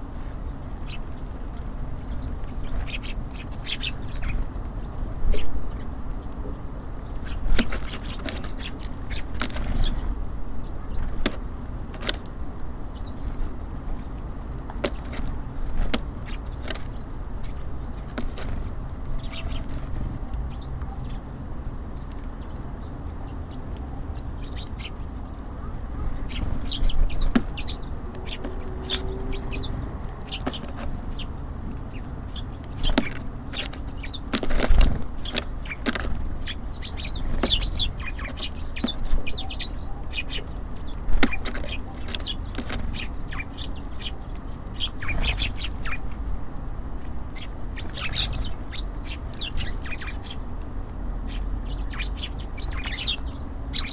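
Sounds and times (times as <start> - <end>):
low city rumble: 0.0 - 53.9
songbirds chirping: 0.0 - 53.9.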